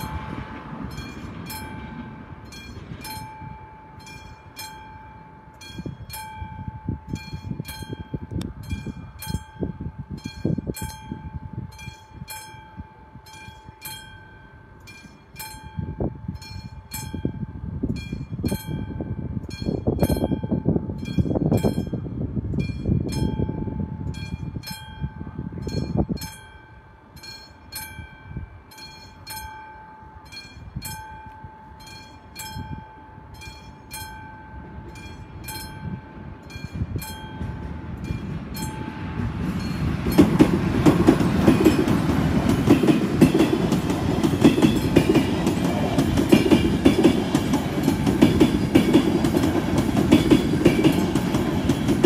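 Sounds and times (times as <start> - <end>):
passenger train rumbling: 0.0 - 52.0.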